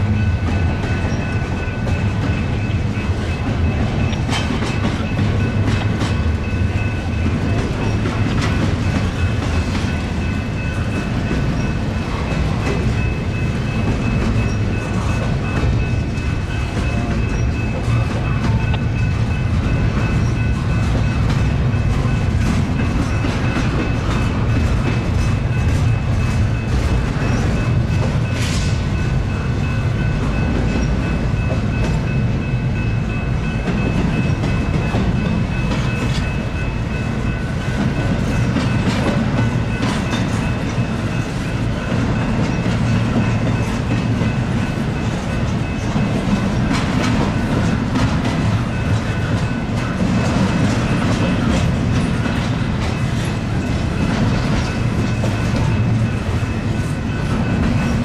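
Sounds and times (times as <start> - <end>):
train wheels rumbling: 0.0 - 58.0
wheels clicking over rail joints: 0.1 - 28.9, 33.6 - 58.0.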